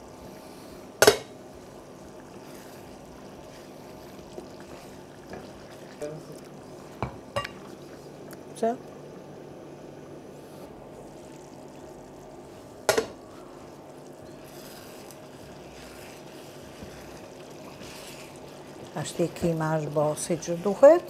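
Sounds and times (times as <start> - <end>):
stew simmering in a pan: 0.0 - 21.0.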